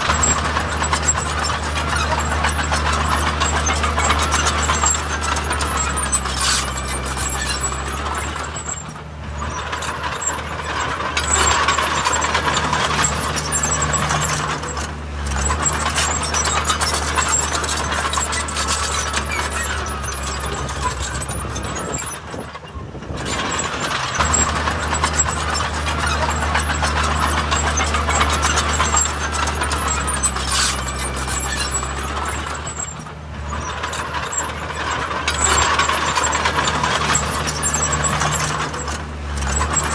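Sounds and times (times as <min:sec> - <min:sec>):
diesel construction machinery droning: 0:00.0 - 0:39.9
metallic clanking and rattling: 0:00.0 - 0:39.9.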